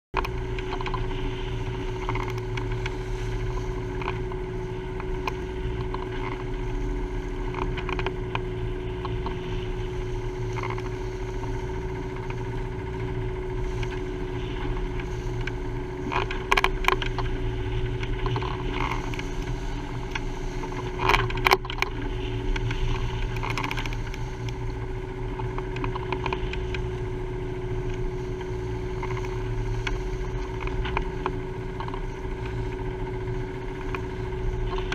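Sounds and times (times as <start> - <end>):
wind: 0.1 - 34.9
steady drone with hum: 0.2 - 34.9
water noise: 0.2 - 34.9.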